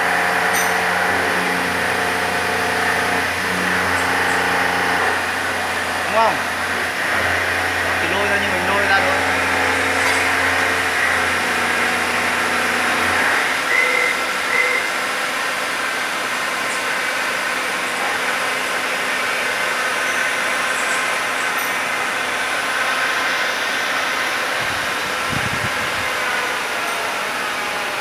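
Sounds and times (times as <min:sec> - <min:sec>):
machine motor hum and whine: 0:00.0 - 0:28.0.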